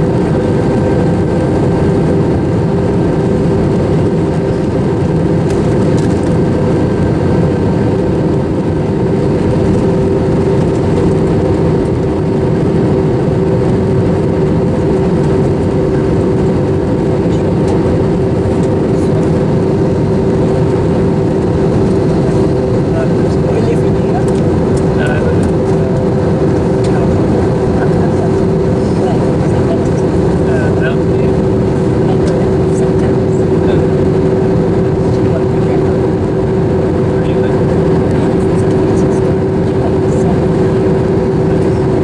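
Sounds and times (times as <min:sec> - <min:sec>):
jet engine and airflow noise: 0:00.0 - 0:42.0
low hum: 0:00.0 - 0:42.0.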